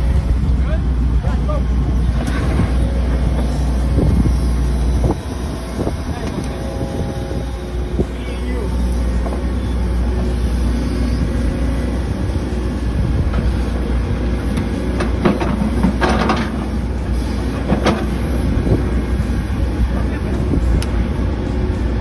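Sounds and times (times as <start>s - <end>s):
machinery engine rumble: 0.0s - 22.0s.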